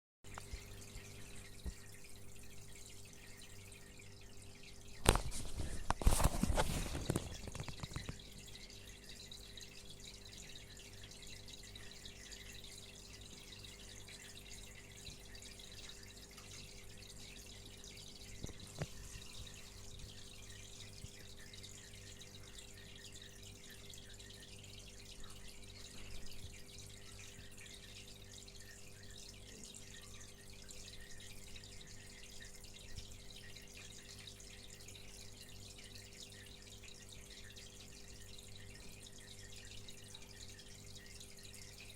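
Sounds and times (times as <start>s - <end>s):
aquarium filter hum: 0.3s - 41.9s
water trickling and dripping: 0.3s - 41.9s.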